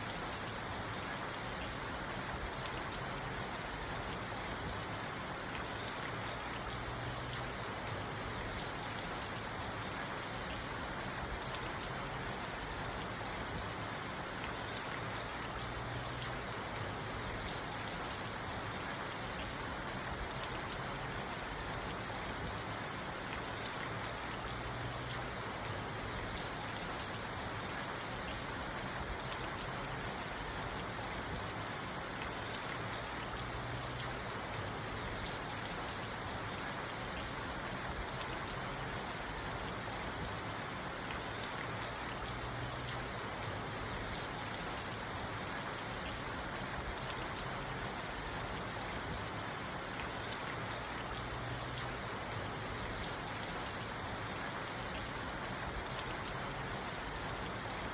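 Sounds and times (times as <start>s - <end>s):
rain falling on car: 0.1s - 57.9s.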